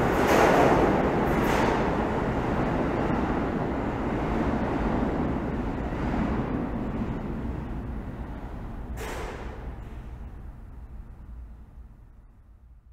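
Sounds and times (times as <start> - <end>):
subway train rumbling on tracks: 0.0 - 12.9.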